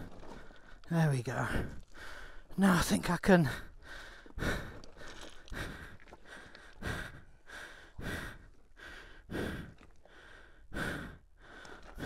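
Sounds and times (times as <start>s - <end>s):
man breathing hard: 0.0s - 2.5s, 3.5s - 12.0s.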